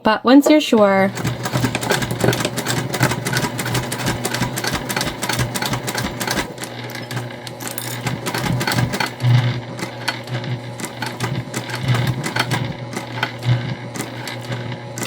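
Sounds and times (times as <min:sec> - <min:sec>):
sewing machine motor hum: 0:00.8 - 0:15.0
sewing machine needle ticking: 0:01.1 - 0:15.0.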